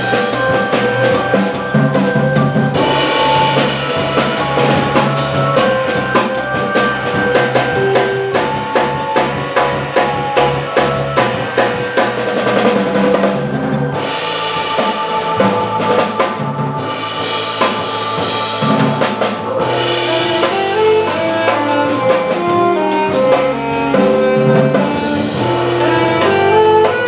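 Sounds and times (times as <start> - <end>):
drum kit playing: 0.0 - 27.0
organ playing: 0.0 - 27.0.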